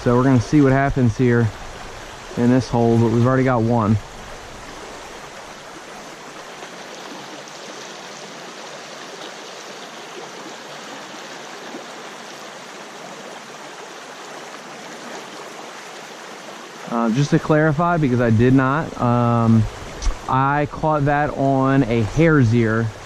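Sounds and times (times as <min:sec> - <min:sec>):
stream water running: 0:00.0 - 0:23.0.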